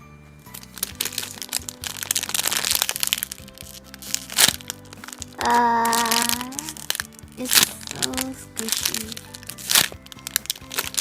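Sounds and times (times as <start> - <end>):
background music: 0.0 - 11.0
packaging crinkling: 0.5 - 11.0
sharp crack: 0.6 - 11.0.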